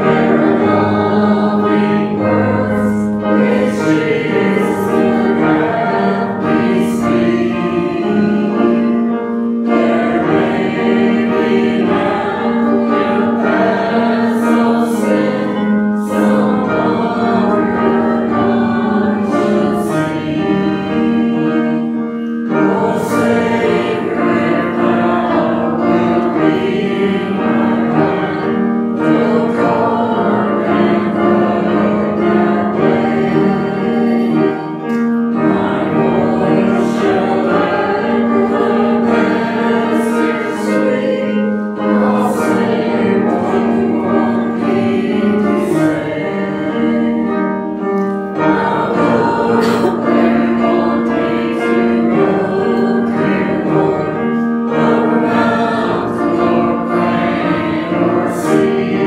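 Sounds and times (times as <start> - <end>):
church choir singing: 0.0 - 59.0
sustained keyboard accompaniment: 0.0 - 59.0.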